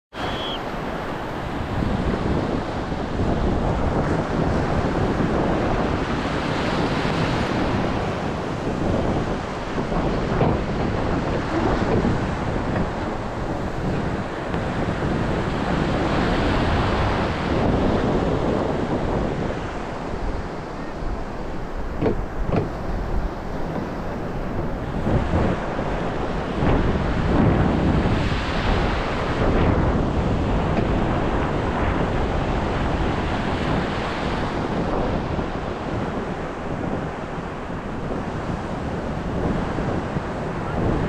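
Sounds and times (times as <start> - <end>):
rushing water: 0.1 - 41.0
wind buffeting microphone: 0.1 - 41.0.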